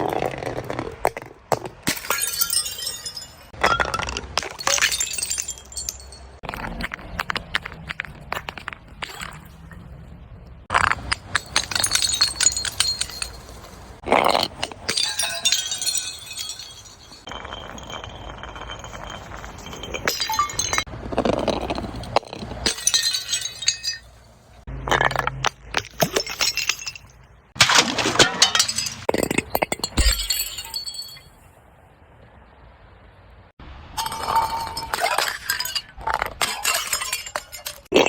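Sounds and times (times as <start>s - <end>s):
glass crushing and breaking: 1.8s - 9.6s, 10.7s - 31.4s, 34.0s - 38.0s.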